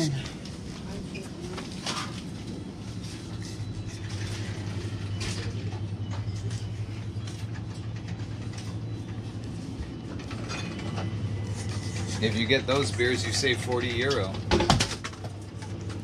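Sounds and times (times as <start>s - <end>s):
refrigerated cases humming: 0.0s - 16.0s.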